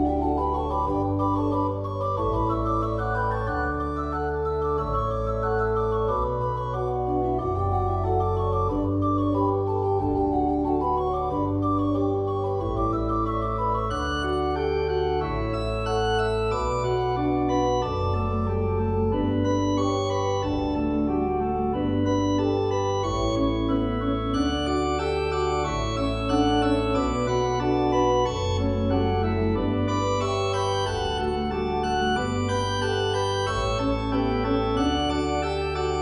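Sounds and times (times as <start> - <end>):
bass line: 0.0 - 36.0
sustained keyboard chords: 0.0 - 36.0.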